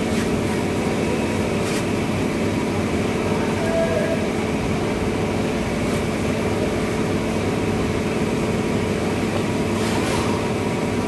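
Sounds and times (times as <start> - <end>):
mechanical hum with held tones: 0.0 - 11.0.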